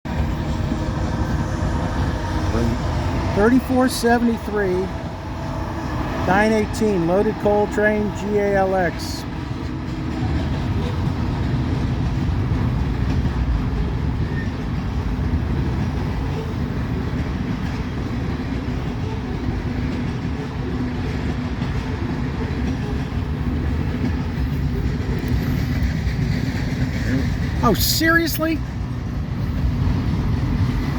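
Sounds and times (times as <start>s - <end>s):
train rumbling on rails: 0.0s - 30.9s.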